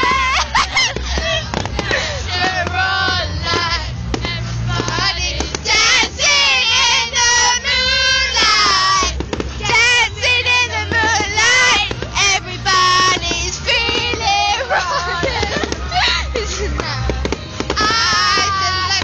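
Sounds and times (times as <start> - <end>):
girls singing together: 0.0 - 19.0.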